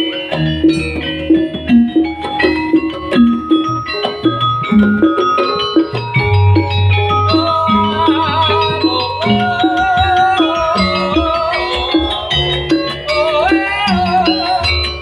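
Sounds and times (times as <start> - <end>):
struck metallophone notes: 0.0 - 15.0
wavering held melody: 0.0 - 15.0
drum strokes: 0.3 - 15.0.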